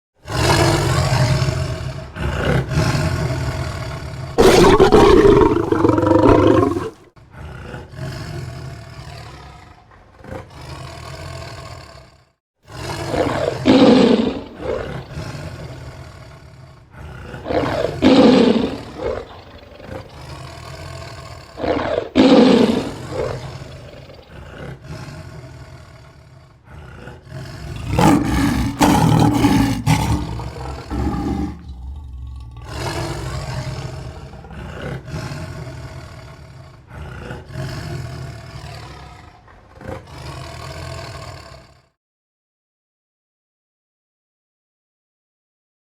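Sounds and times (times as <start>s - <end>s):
tiger roaring: 0.2s - 42.0s.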